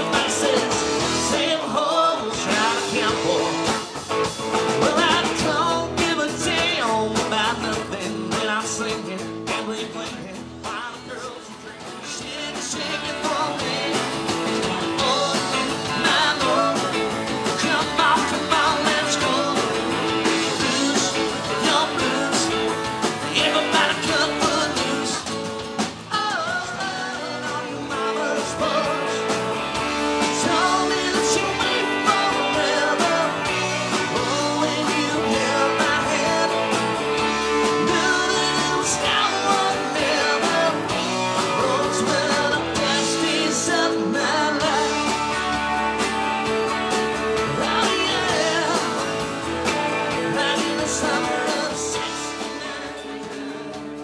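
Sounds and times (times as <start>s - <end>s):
person singing: 0.0s - 3.9s, 4.8s - 25.4s, 26.1s - 45.6s, 47.3s - 54.0s
country-rock band playing: 0.0s - 54.0s.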